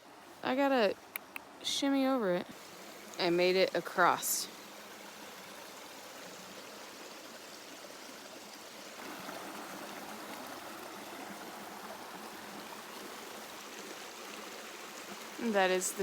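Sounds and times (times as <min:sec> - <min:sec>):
river water rushing: 0:02.6 - 0:16.0.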